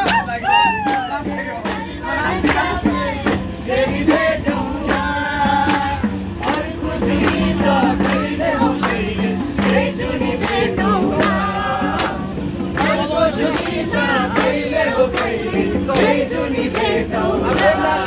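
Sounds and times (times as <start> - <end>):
group singing: 0.0 - 18.0
hands clapping in time: 0.0 - 18.0.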